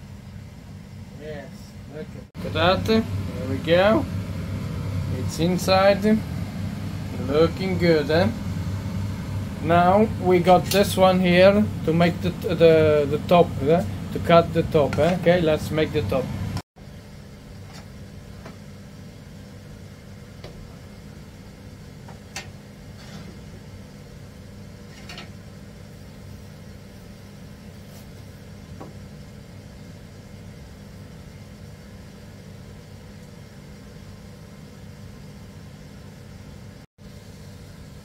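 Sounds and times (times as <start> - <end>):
kitchen appliance humming: 0.0 - 38.0.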